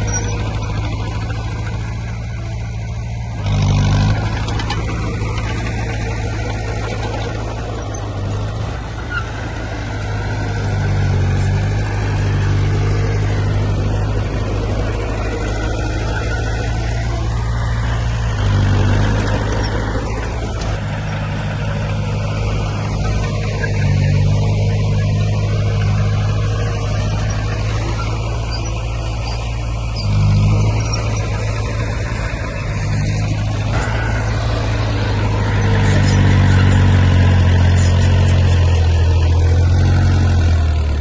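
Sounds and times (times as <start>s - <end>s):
heavy machinery diesel engine: 0.0s - 41.0s.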